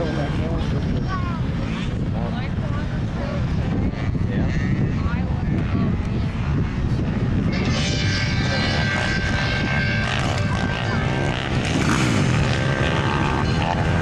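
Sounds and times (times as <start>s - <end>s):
small atv engines revving: 0.0s - 14.0s.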